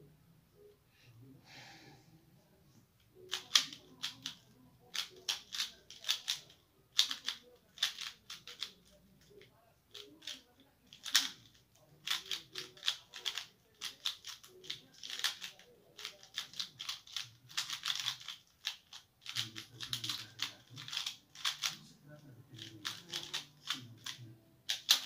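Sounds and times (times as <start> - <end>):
puzzle cube plastic clicking: 3.3 - 21.9, 22.6 - 25.0.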